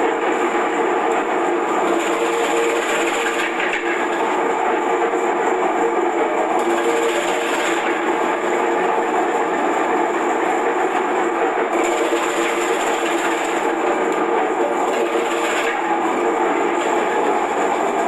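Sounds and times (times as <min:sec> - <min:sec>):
vegetable slicer whirring: 0:00.0 - 0:18.0.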